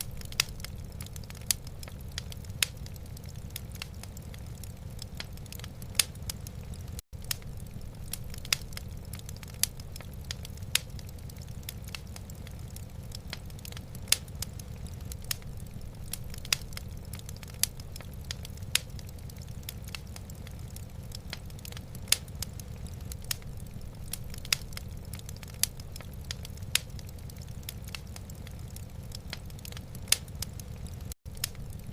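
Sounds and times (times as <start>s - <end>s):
fire crackling and popping: 0.0s - 31.9s
low fire rumble: 0.0s - 31.9s.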